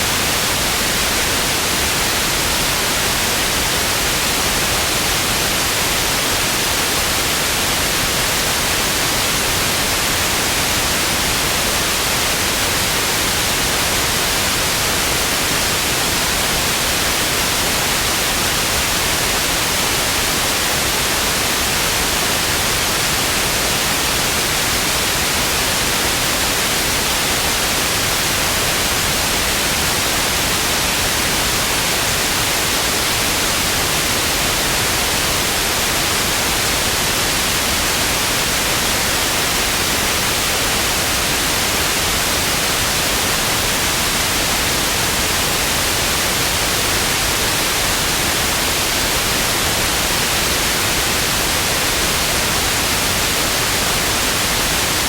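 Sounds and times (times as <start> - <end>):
television static hiss: 0.0 - 55.0.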